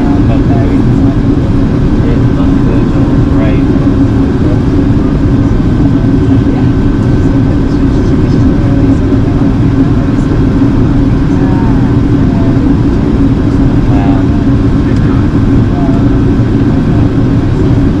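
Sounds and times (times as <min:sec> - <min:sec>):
aircraft cabin drone: 0:00.0 - 0:18.0.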